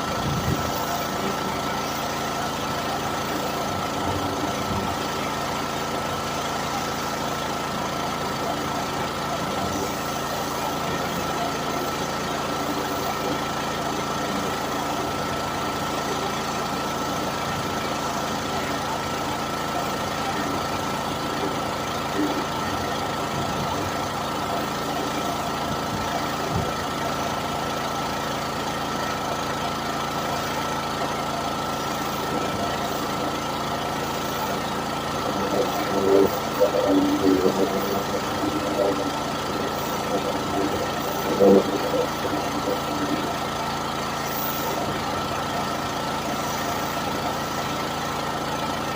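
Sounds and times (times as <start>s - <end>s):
engine running steadily: 0.0s - 48.9s
steady high whine: 0.0s - 48.9s.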